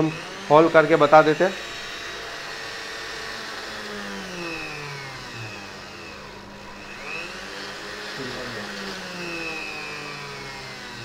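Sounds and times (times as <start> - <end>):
rotary tool motor whine: 0.0 - 11.0.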